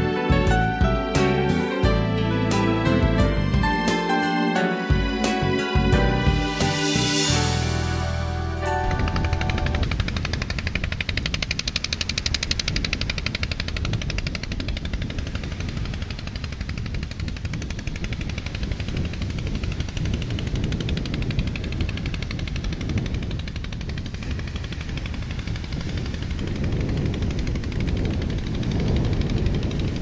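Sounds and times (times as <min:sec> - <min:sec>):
low rumble: 0:00.0 - 0:03.9, 0:04.9 - 0:30.0.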